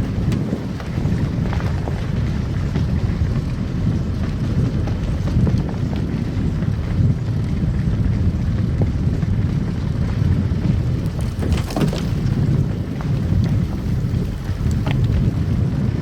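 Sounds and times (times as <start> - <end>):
tyres and engine rumble: 0.0 - 16.0.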